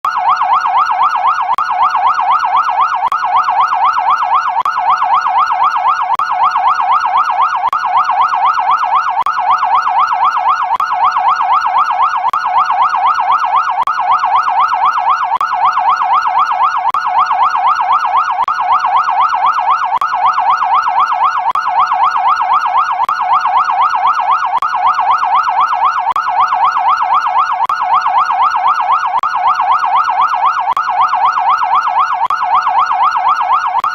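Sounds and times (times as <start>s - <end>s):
police siren fast sweep: 0.1s - 33.9s.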